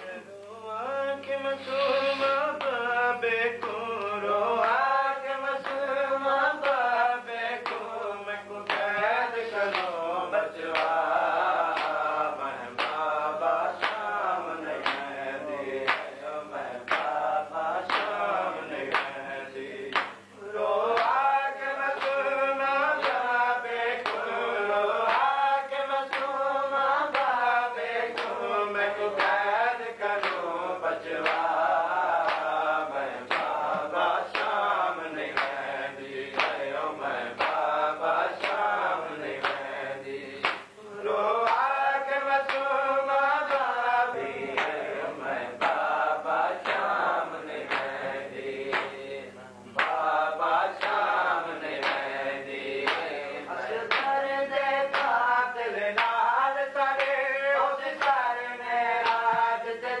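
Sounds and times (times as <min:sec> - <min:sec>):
man chanting a recitation: 0:00.0 - 1:00.0
voices joining chant: 0:00.0 - 1:00.0.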